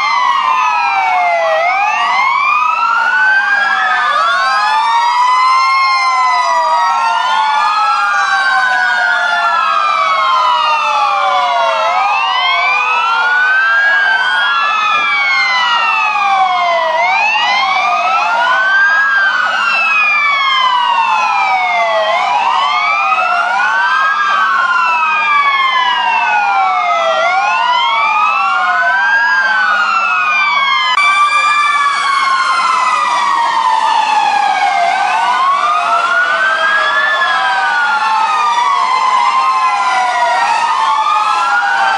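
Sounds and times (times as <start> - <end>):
fire engine sirens wailing: 0.0 - 41.9.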